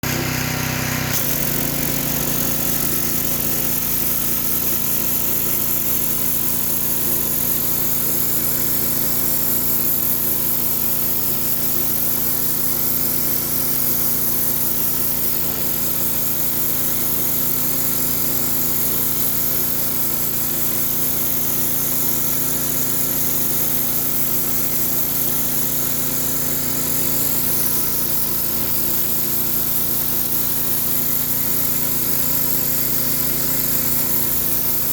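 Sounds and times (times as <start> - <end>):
pressure washer engine running: 0.0 - 34.9
water spraying on concrete: 0.0 - 34.9.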